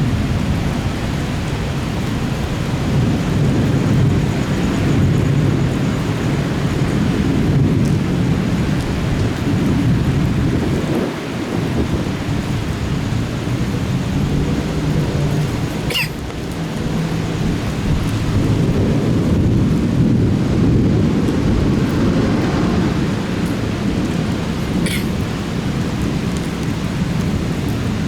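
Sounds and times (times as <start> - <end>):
heavy rain: 0.0 - 28.0
deep thunder rumble: 2.2 - 27.7.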